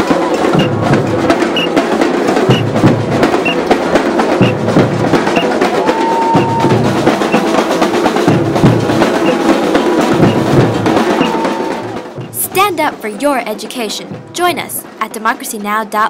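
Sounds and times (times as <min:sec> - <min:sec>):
bass drums and snare drums: 0:00.0 - 0:15.2.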